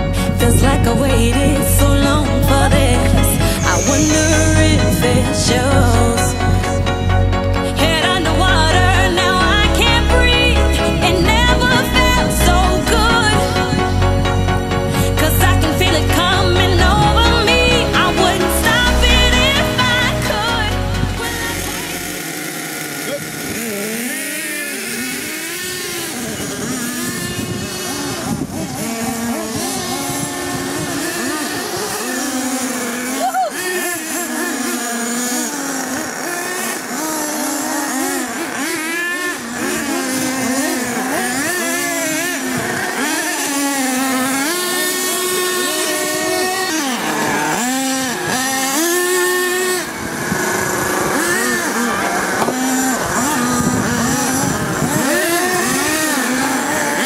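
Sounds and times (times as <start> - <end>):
small nitro engines revving: 0.0 - 57.0.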